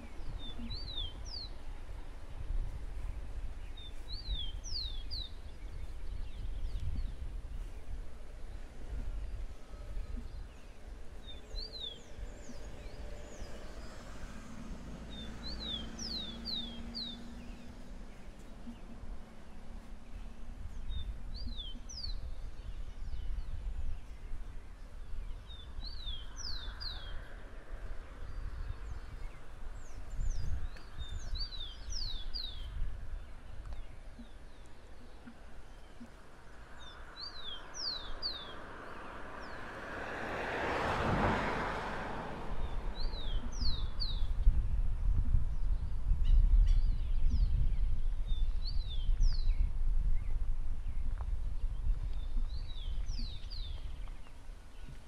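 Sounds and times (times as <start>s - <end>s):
low rumbling background noise: 0.0s - 55.0s.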